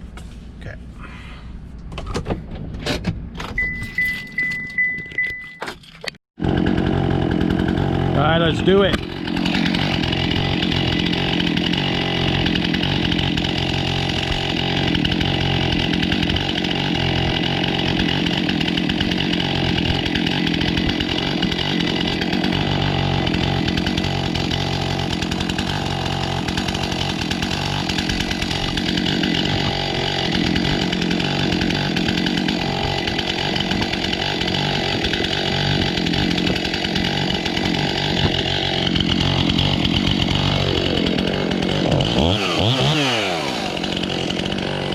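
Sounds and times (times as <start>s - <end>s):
chainsaw cutting wood: 6.4s - 44.9s.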